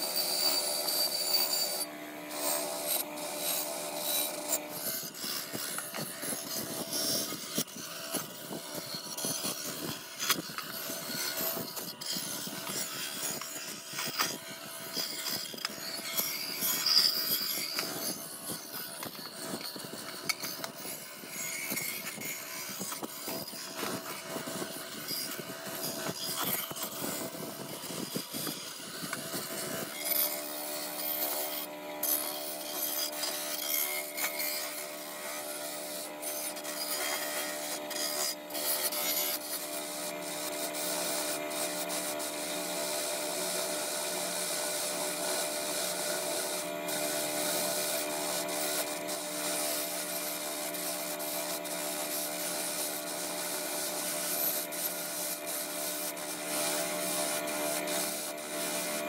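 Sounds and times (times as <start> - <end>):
constant humming tone: 0.0 - 59.0.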